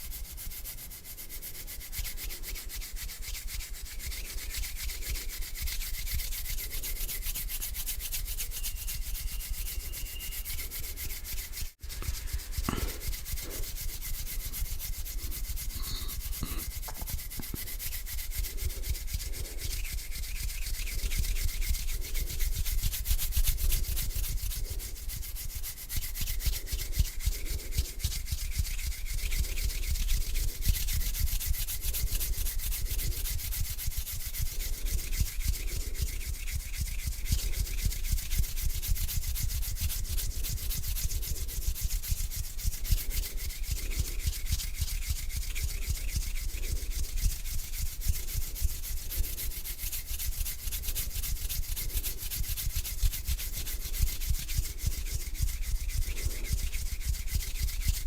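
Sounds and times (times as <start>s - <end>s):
hands rubbing together: 0.0s - 58.0s.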